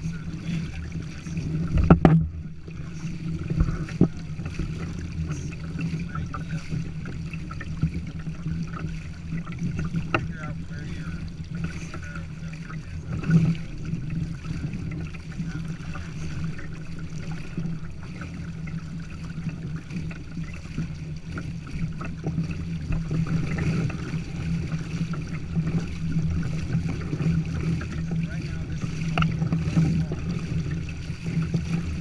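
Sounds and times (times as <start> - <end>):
low rumble of wind: 0.0 - 32.0
water rushing along hull: 0.0 - 32.0.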